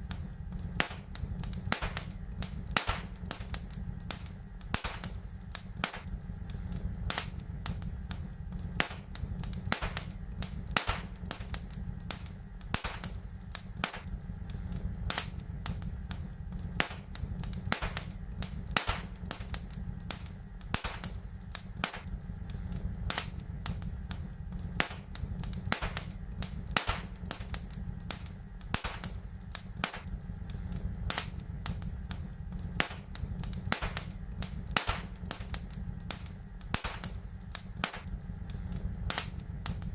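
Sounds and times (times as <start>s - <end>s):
fire crackling: 0.0s - 39.9s
low rumble: 0.0s - 39.9s.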